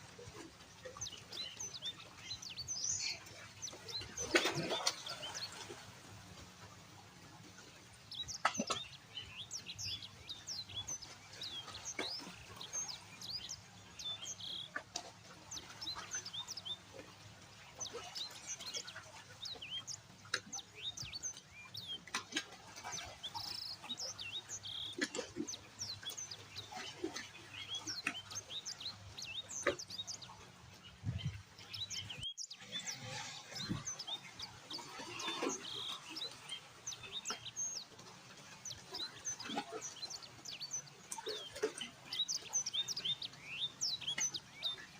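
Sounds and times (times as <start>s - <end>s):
small birds chirping: 7.5s - 44.9s.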